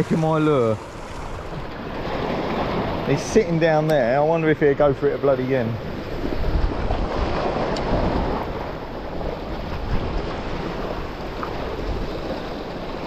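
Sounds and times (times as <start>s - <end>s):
sea washing against rocks: 0.0s - 13.0s
wind buffeting microphone: 0.0s - 13.0s.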